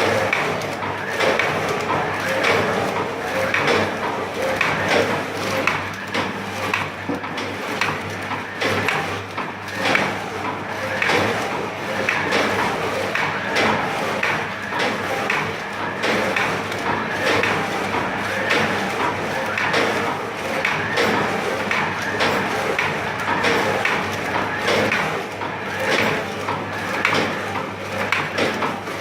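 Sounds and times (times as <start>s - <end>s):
packing machine knocking: 0.0s - 29.0s.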